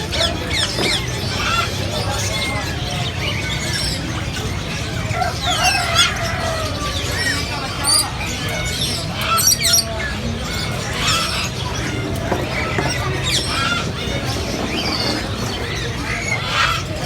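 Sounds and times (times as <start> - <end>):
parrots squawking and chirping: 0.0 - 17.0.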